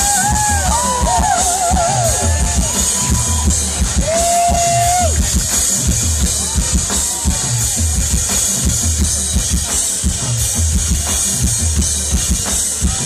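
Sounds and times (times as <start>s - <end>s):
live rock band instrumental: 0.0s - 13.0s.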